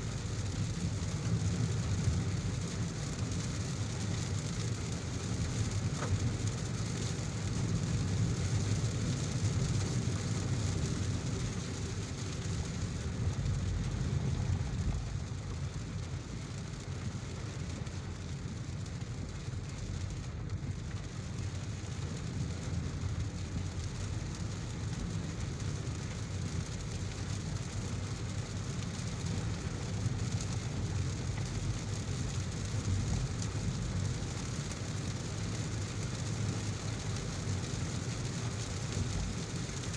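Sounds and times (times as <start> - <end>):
car driving rumble: 0.0 - 39.9
heavy rain falling: 0.0 - 39.9.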